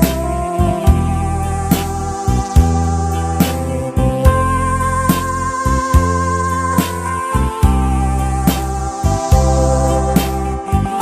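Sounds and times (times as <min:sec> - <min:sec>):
steady bass line: 0:00.0 - 0:11.0.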